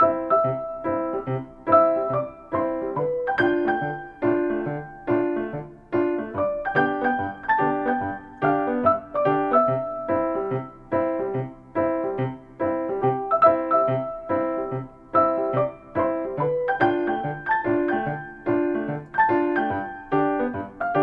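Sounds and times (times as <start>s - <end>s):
bouncy piano music: 0.0s - 21.0s.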